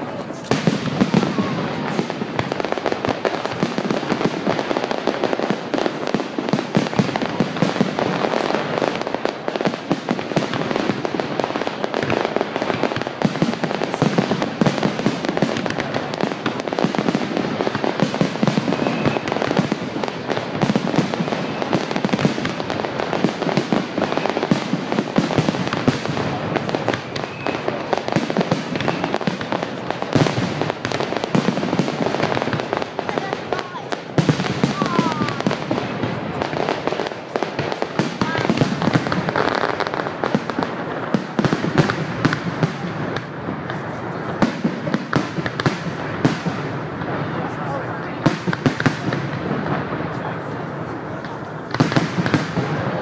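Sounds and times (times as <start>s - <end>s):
fireworks crackling and banging: 0.0s - 53.0s.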